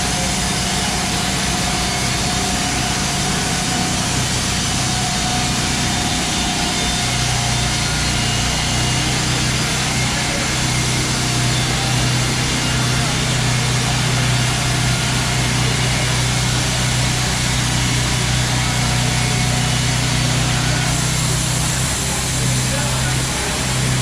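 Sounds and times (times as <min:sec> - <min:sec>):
constant rushing noise: 0:00.0 - 0:24.0
engine humming: 0:00.0 - 0:24.0.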